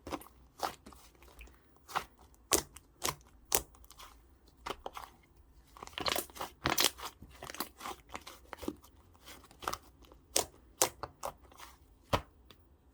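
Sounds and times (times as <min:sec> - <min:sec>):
slime squished by hand: 0:00.0 - 0:05.1, 0:05.7 - 0:12.3.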